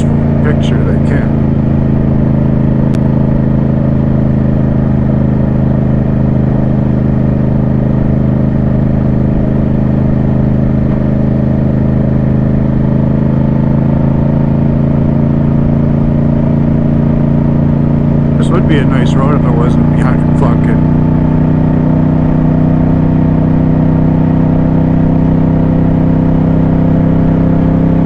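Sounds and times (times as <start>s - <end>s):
motorcycle engine running steadily: 0.0s - 28.0s.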